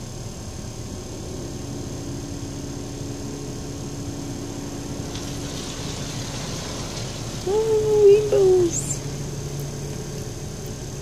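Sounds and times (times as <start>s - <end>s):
car wash machinery rumbling: 0.0s - 11.0s.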